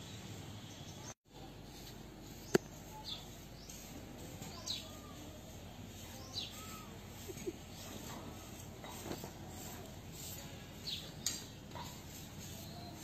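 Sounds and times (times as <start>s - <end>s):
birds chirping: 0.0s - 9.0s, 10.3s - 13.0s
outdoor background noise: 0.0s - 13.0s.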